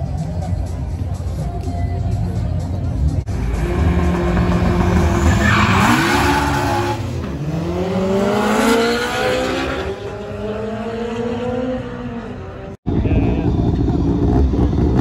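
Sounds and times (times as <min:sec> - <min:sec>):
racing car engines revving: 0:02.2 - 0:15.0.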